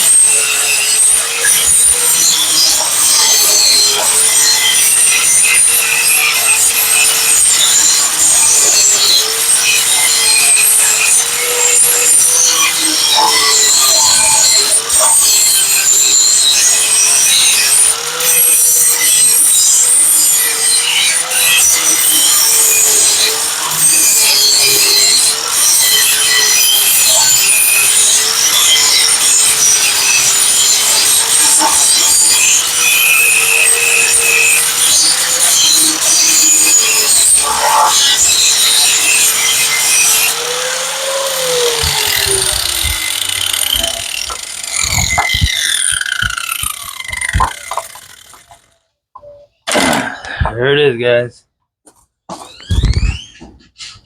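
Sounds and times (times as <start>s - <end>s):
grinder motor spinning down: 0.0s - 48.8s
angle grinder grinding metal: 0.0s - 50.3s.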